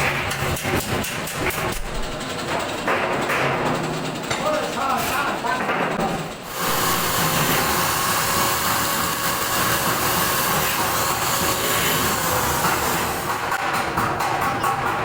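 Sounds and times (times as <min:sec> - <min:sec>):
machine whirring: 0:00.0 - 0:15.0.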